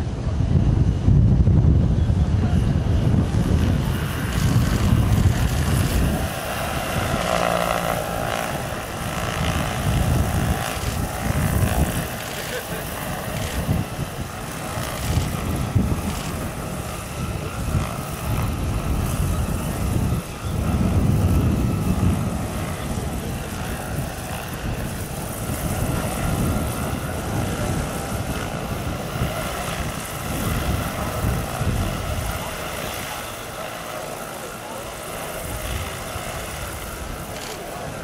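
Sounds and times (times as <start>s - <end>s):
model helicopter rotors fluttering: 0.0s - 38.0s
electric motor whine: 1.1s - 38.0s.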